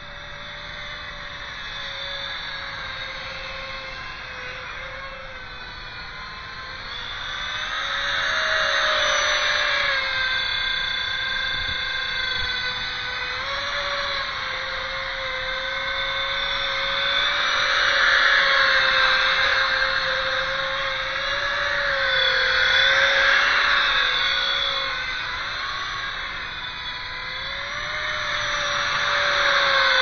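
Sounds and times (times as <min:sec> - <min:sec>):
electric ducted fan whining: 0:00.0 - 0:30.0.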